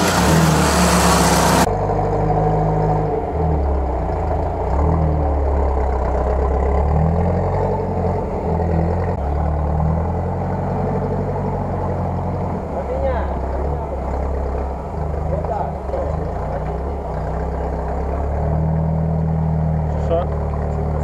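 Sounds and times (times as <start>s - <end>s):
vehicle engine labouring: 0.0s - 21.0s.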